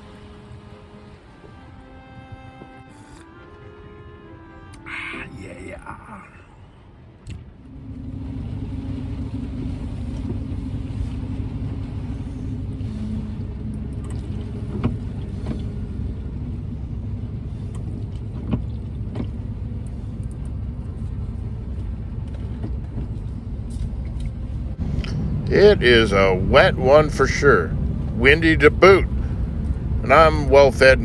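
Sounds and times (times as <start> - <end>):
van engine running: 0.0 - 31.0.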